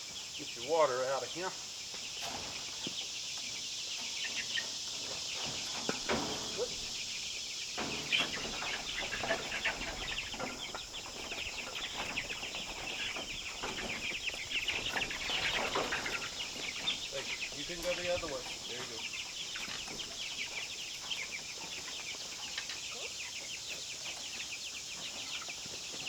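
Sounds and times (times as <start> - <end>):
chickens clucking and cheeping: 0.0 - 26.0.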